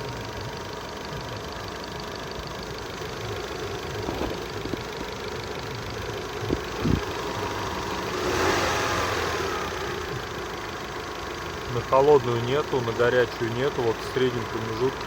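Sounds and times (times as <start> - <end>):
engine running with whine: 0.0 - 15.0.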